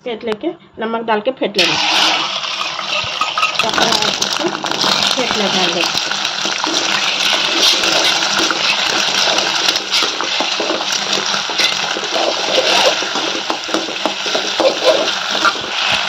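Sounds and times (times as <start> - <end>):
egg sizzling in oil: 1.6 - 16.0
spatula scraping a pan: 1.6 - 16.0.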